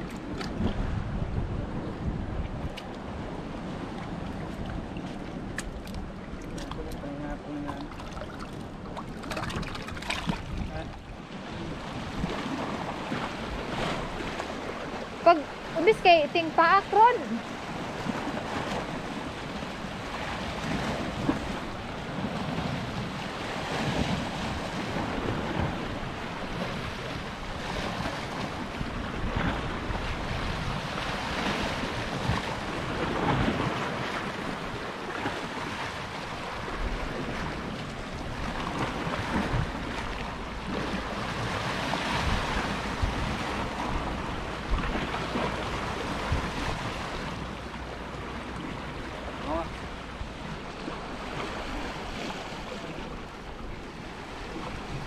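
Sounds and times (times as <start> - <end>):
waves washing against rocks: 0.0 - 55.0
wind gusts on microphone: 0.0 - 55.0.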